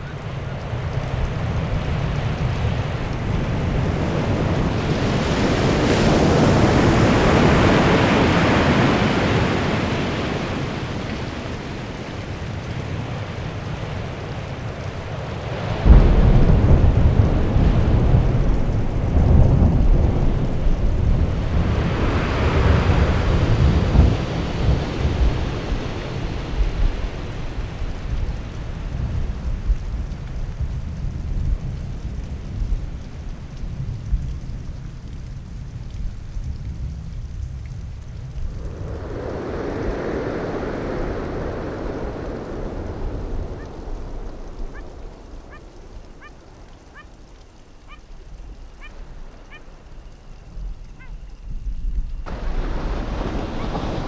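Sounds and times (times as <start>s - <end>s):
surf washing over rocks: 0.0s - 30.7s, 37.8s - 54.0s.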